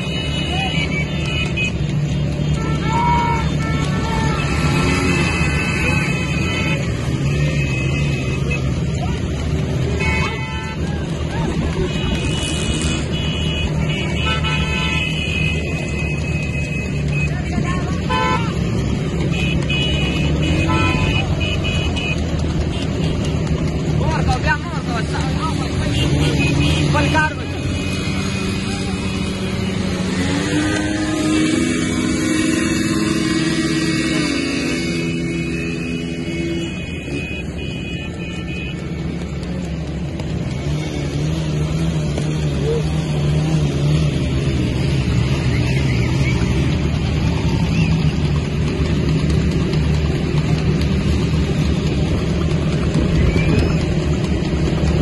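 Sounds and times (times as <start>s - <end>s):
motorcycle engines running: 0.0s - 55.0s.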